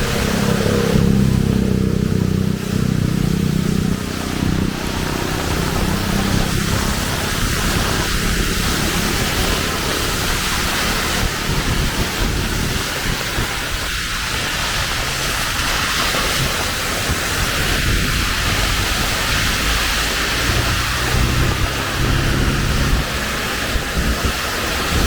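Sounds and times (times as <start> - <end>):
heavy rain pouring: 0.0 - 25.0
low rumble: 0.0 - 25.0.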